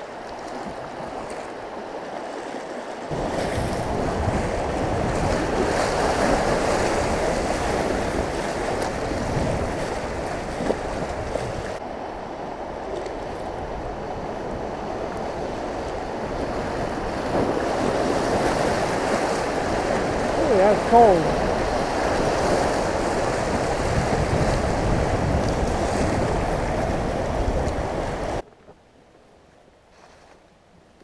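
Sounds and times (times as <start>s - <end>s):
river rapids rushing and splashing: 0.0s - 28.4s
wind buffeting microphone: 3.1s - 28.4s.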